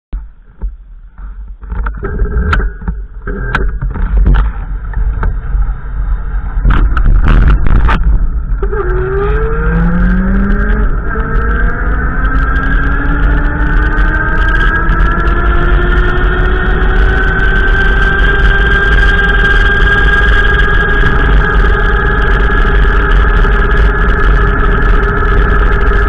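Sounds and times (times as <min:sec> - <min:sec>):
low rumble: 0:00.1 - 0:26.0
vehicle engine accelerating: 0:01.9 - 0:26.0.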